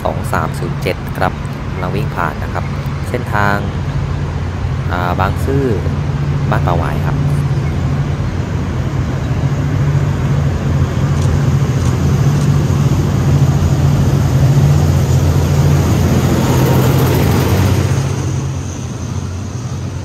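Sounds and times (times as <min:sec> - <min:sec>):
locomotive engine droning: 0:00.0 - 0:20.0
train running noise: 0:00.0 - 0:20.0.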